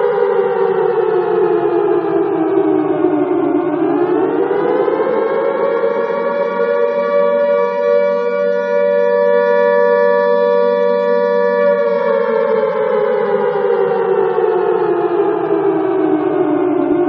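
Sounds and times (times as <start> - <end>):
alarm siren wailing: 0.0 - 17.0.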